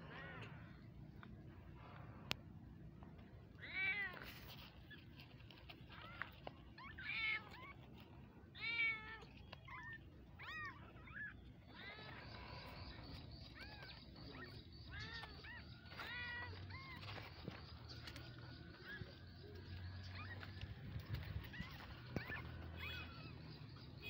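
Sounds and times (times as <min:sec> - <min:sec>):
kittens mewing: 0:03.5 - 0:24.0.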